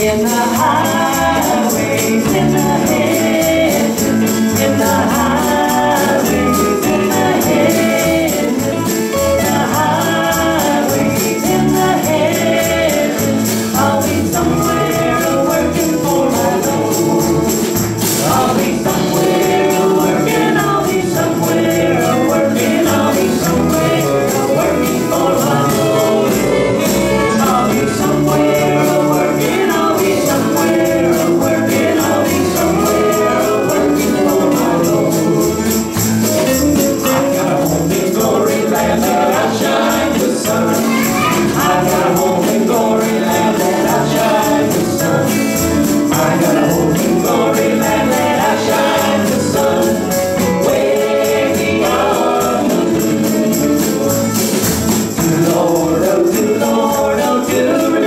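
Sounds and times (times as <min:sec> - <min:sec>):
gospel band playing: 0:00.0 - 0:58.0
voices singing together: 0:00.0 - 0:58.0.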